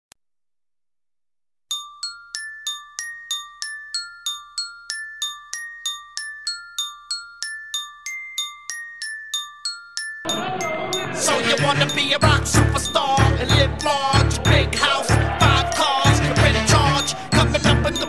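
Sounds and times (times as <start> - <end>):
glockenspiel melody: 1.7 - 18.0.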